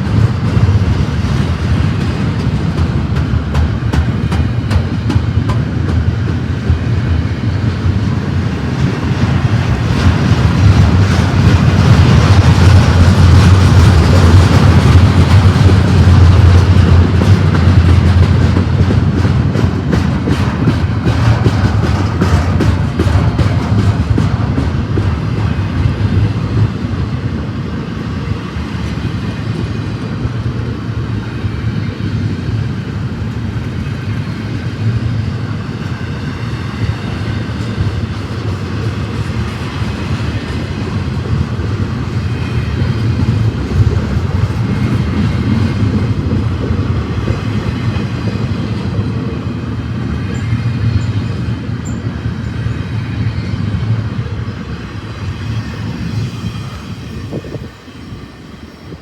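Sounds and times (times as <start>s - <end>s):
freight train rumbling past: 0.0s - 59.0s
wheels hissing on rail: 0.0s - 59.0s.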